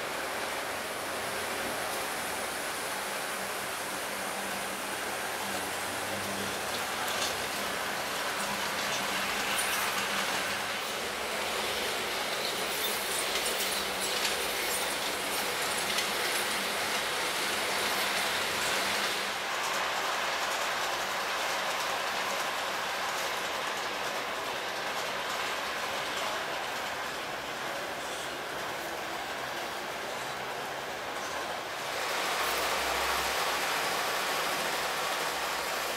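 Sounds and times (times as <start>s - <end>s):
model train rolling on track: 0.0s - 35.9s
wheels clicking over rail joints: 0.0s - 35.9s.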